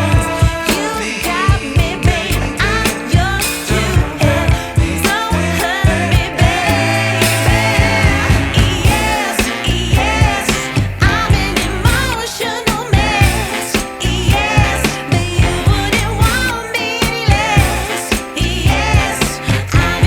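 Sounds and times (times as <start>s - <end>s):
pop song with singer: 0.0s - 20.0s.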